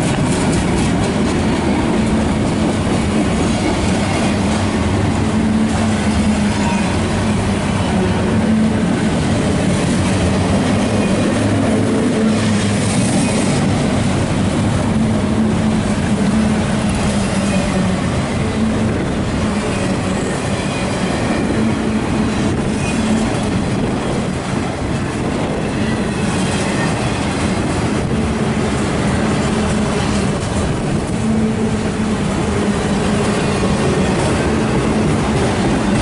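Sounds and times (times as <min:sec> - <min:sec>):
steel wheels rumbling on rails: 0:00.0 - 0:36.0.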